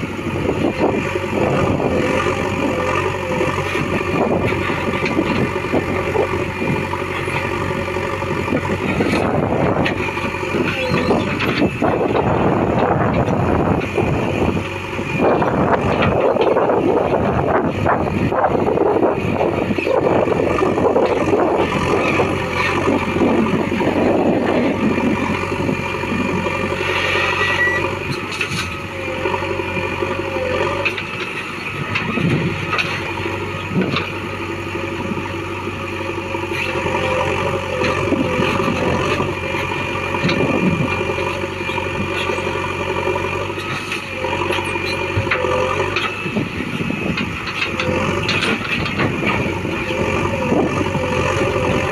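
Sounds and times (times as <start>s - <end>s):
heavy diesel engines running: 0.0s - 51.9s.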